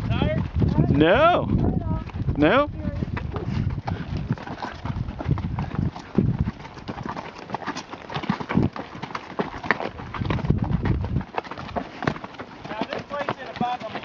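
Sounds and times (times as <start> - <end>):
horse hooves clip-clopping on dirt: 0.0 - 14.0.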